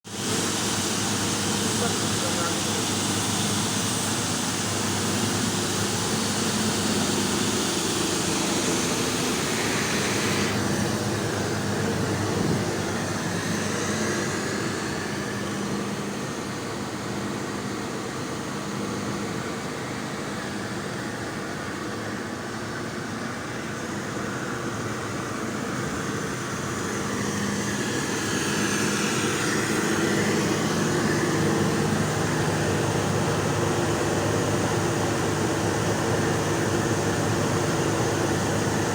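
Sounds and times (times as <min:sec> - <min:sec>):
boiler rushing with low hum: 0:00.1 - 0:38.9.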